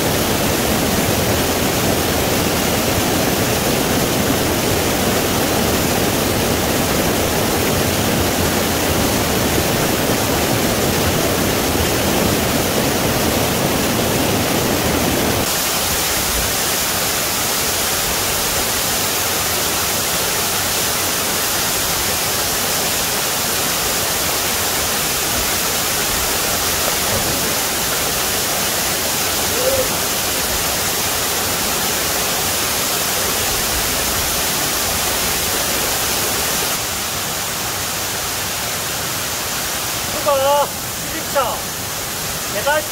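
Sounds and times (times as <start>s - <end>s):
stream rushing over boulders: 0.0s - 42.9s
waterfall pouring into a pool: 0.0s - 42.9s.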